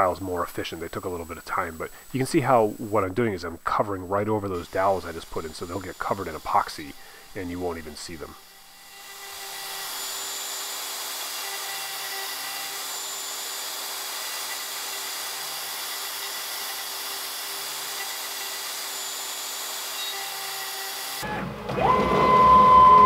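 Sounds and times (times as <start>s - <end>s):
router spindle engraving wood: 0.0s - 21.4s.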